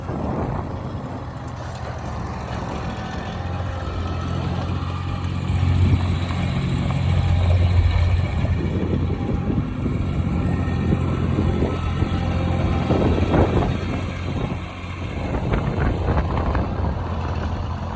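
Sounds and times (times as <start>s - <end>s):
riding mower engine running: 0.0s - 17.9s.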